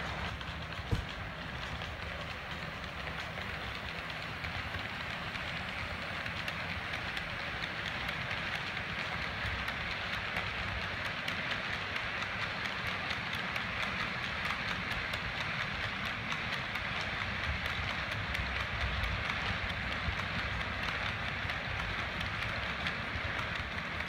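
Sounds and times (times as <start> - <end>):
model train rolling rumble: 0.0 - 24.0
wheels clicking on rail joints: 0.0 - 24.0.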